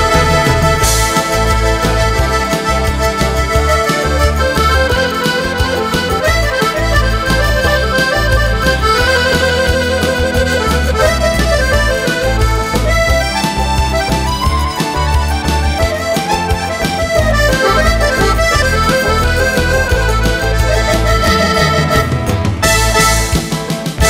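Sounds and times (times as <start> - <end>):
pulsing low beat: 0.0 - 23.5
piano accordion playing: 0.0 - 24.0.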